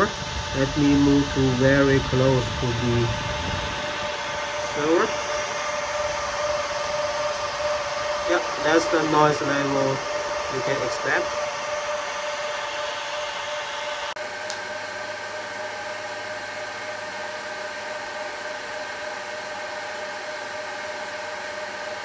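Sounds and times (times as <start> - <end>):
server cooling fans whirring: 0.0 - 22.0.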